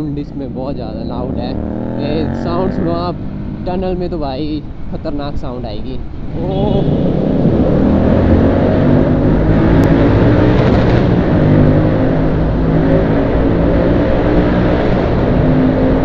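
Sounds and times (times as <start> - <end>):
motorcycle engines at speed: 0.0 - 5.1, 6.0 - 16.0
wind and road noise: 0.0 - 16.0.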